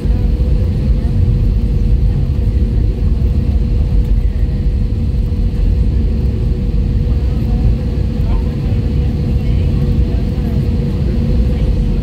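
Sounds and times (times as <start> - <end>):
aircraft cabin low rumble: 0.0 - 12.0.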